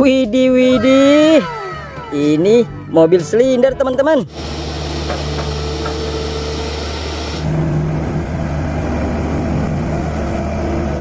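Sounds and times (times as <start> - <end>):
vehicle engine humming: 0.5 - 11.0.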